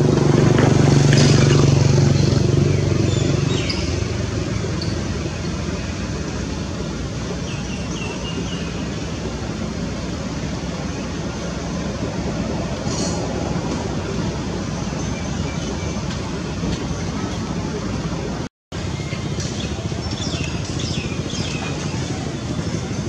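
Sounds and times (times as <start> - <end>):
outdoor rumble: 0.0 - 23.0
vehicle engine running: 0.0 - 23.0.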